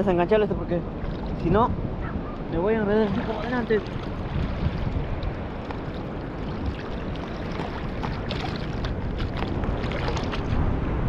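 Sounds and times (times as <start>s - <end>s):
wind buffeting microphone: 0.0s - 11.0s
water sloshing around boat: 0.4s - 10.8s.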